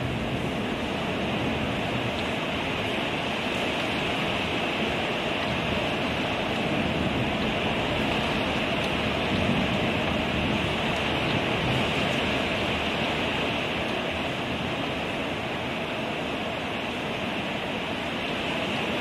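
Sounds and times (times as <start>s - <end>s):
torrential rain: 0.0s - 19.0s.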